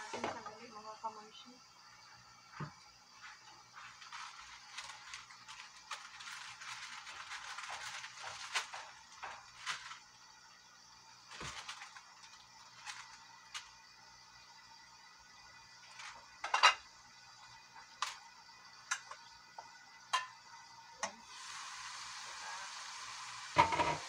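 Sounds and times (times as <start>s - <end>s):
fish frying in oil: 0.0s - 24.0s.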